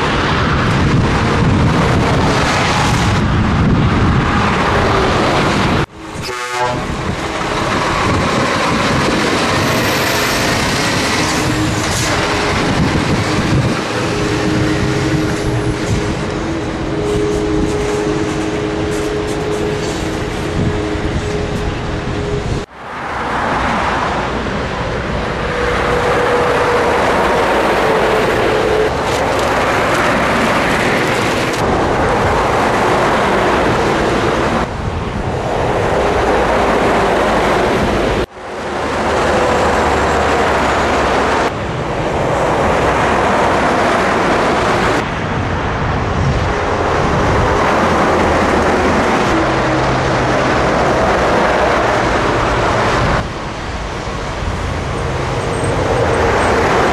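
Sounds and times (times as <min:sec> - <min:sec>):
truck engine: 0:00.0 - 0:56.9.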